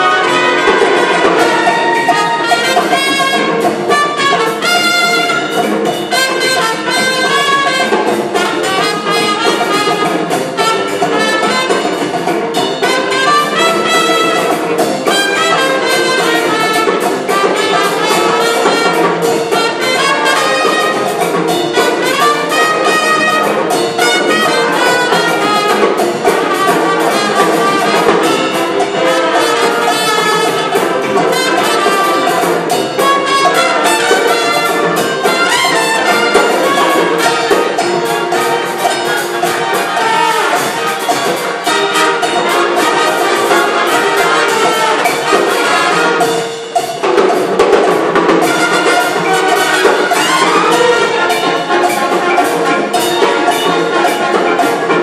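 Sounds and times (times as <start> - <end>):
brass instruments: 0.0 - 55.0
orchestra playing dance music: 0.0 - 55.0.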